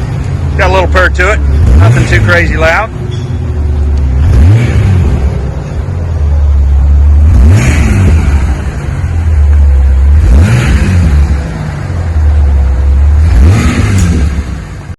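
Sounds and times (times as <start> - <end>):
car engine idling and revving: 0.0 - 14.9.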